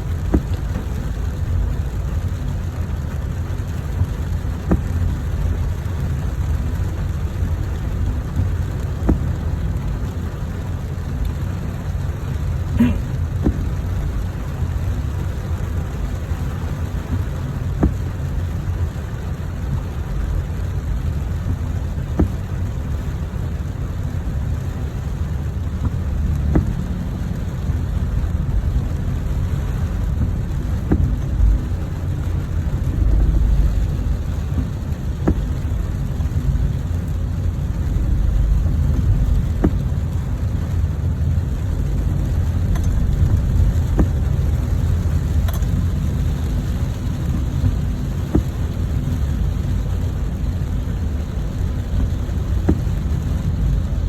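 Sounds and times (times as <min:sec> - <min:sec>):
heavy low rumble: 0:00.0 - 0:54.0
steady rain: 0:00.0 - 0:54.0.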